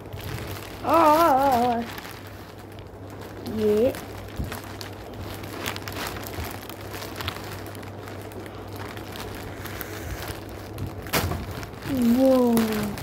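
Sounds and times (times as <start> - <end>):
plastic bag crinkling: 0.0 - 13.0
small crackles: 0.0 - 13.0
steady low hum: 0.0 - 13.0.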